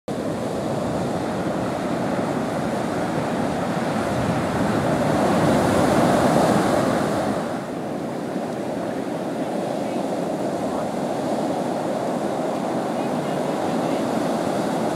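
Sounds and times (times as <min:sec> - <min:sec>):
heavy surf breaking: 0:00.1 - 0:14.9.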